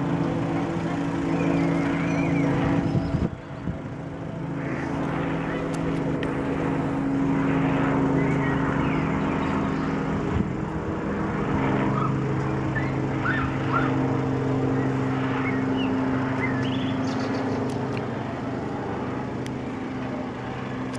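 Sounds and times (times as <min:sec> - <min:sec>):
helicopter drone: 0:00.0 - 0:20.9.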